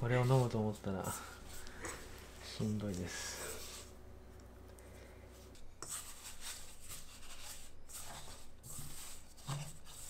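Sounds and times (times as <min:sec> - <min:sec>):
hands kneading dough in metal bowl: 0:00.0 - 0:04.0, 0:05.4 - 0:10.0.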